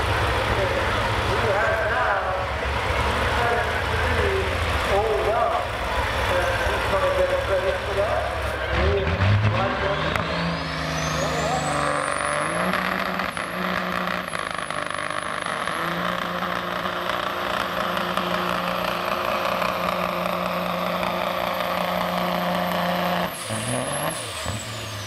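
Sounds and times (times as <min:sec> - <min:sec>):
diesel truck engine running hard: 0:00.0 - 0:25.0.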